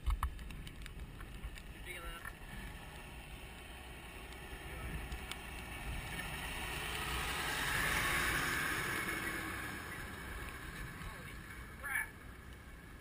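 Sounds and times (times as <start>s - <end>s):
wind rumble on microphone: 0.0s - 13.0s
heavy truck passing: 1.8s - 13.0s.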